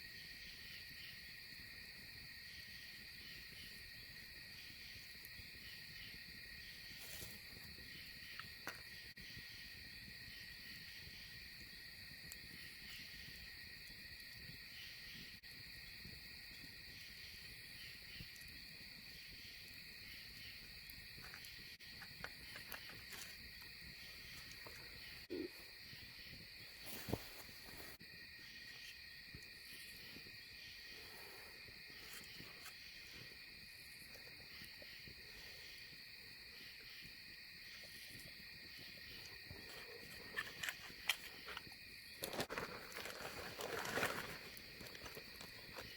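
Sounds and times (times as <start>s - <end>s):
night insects trilling: 0.0s - 45.9s.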